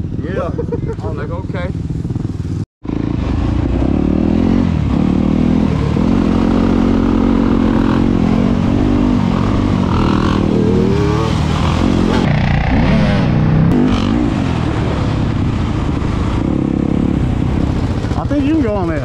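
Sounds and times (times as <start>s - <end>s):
dirt bike engine revving: 1.6s - 19.0s.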